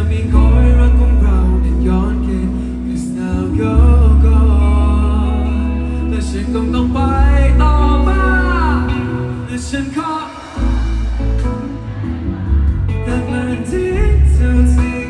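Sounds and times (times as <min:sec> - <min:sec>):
band with heavy bass: 0:00.0 - 0:15.0
man singing pop song: 0:00.0 - 0:15.0.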